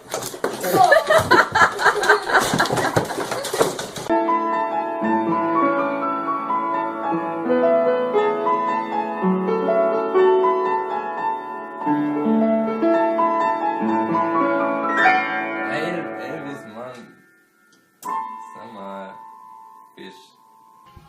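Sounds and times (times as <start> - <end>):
gentle piano music: 4.0 - 21.0.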